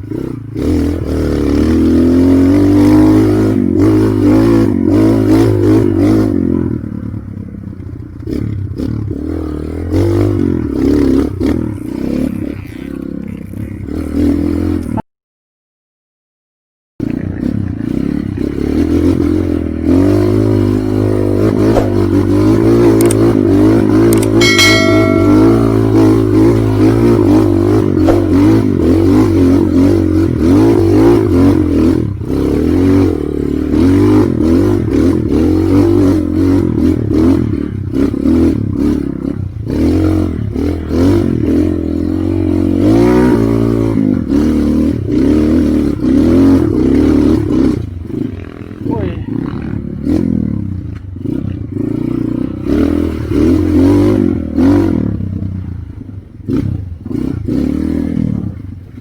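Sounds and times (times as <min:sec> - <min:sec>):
motorcycle engine revving: 0:00.0 - 0:15.0, 0:17.0 - 0:59.0.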